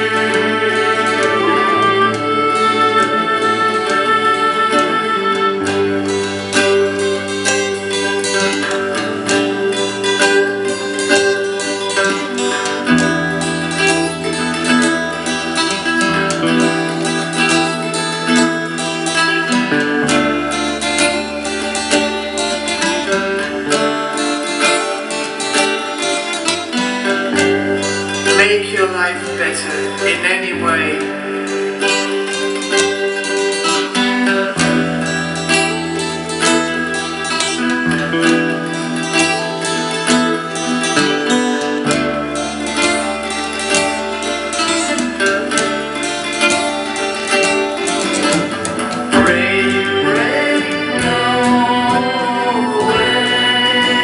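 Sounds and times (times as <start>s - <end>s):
acoustic guitar playing: 0.0s - 54.0s
band backing track: 0.0s - 54.0s.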